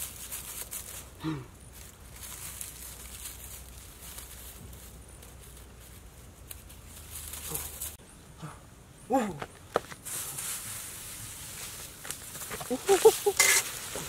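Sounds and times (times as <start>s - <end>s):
grass stems rustling and crackling: 0.0s - 8.0s, 9.6s - 14.0s.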